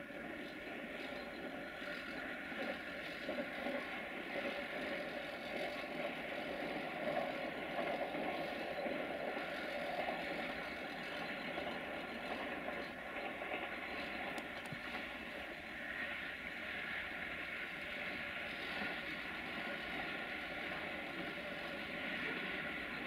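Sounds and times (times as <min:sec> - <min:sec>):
diesel locomotive engine running: 0:00.0 - 0:23.0.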